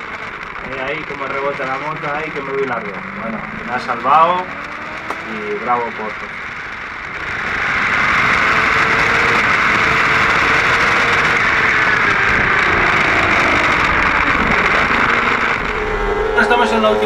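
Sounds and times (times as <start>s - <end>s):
motorcycle engine at high revs: 0.0s - 17.0s
wind rush: 0.0s - 17.0s.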